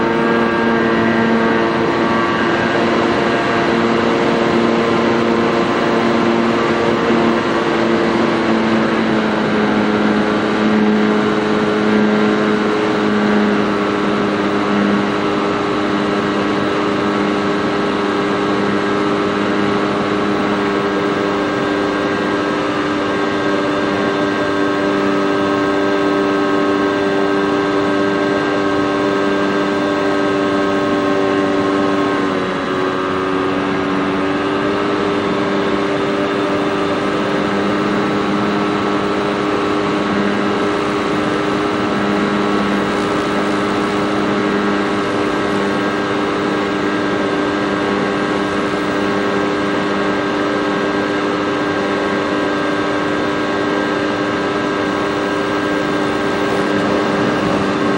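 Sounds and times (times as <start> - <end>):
model airplane motor humming: 0.0 - 57.9.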